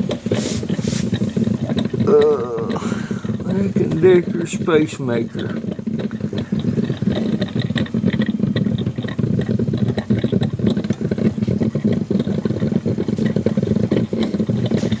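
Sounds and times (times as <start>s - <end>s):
coffee maker gurgling: 0.0s - 15.0s.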